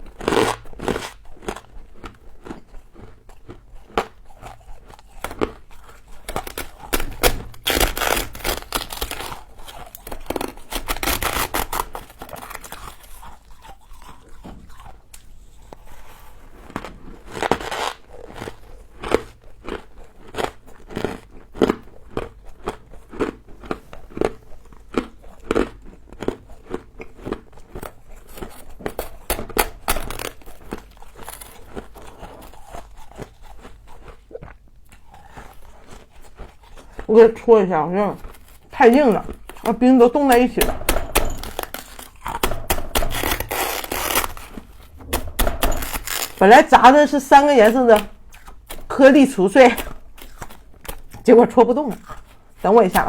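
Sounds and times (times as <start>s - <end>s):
person chewing crunchy frost: 0.0s - 53.0s.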